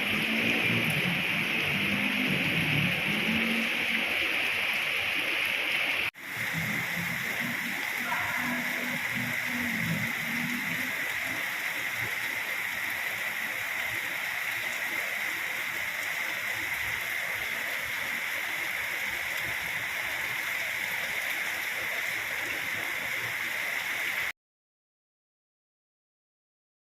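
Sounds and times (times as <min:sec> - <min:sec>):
steady rain falling: 0:00.0 - 0:24.3.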